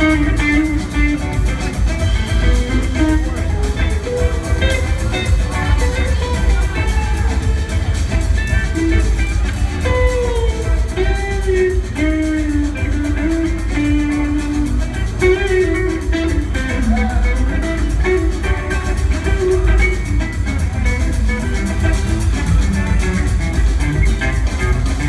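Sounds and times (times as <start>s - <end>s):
electric guitar lead: 0.0s - 25.0s
live rock band: 0.0s - 25.0s.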